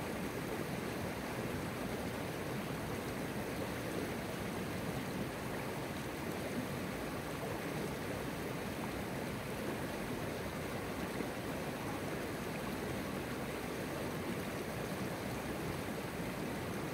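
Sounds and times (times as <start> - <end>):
river water flowing: 0.0 - 16.9.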